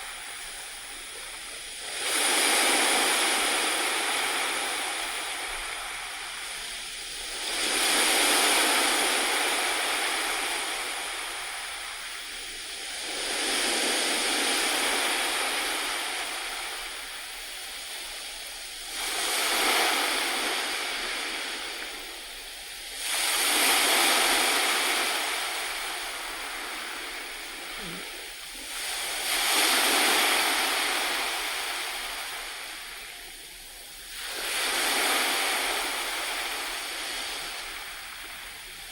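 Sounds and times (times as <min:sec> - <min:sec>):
sea waves washing onto shore: 0:00.0 - 0:38.9.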